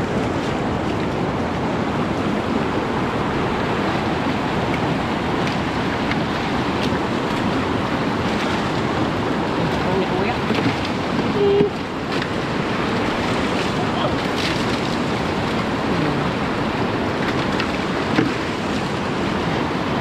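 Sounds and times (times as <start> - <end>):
fast-flowing river rushing: 0.0 - 20.0.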